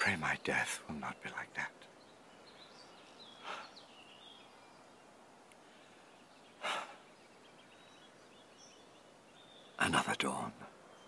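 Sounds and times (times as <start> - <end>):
low steady hiss: 0.0 - 11.0
soft rush of noise: 0.0 - 11.0.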